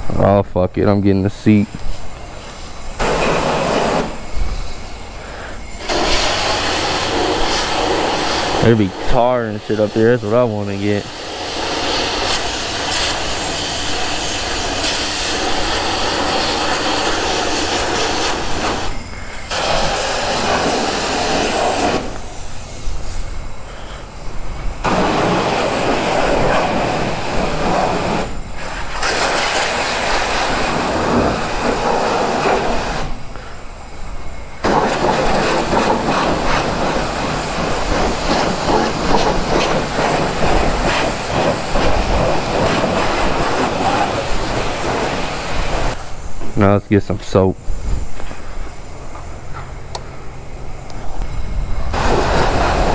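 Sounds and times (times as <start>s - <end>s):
high-pressure water spray hissing: 1.4s - 52.9s.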